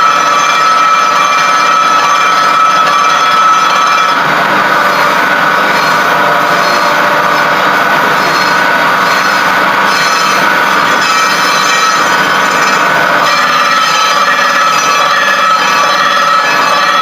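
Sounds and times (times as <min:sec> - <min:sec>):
power tool grinding: 0:00.0 - 0:17.0.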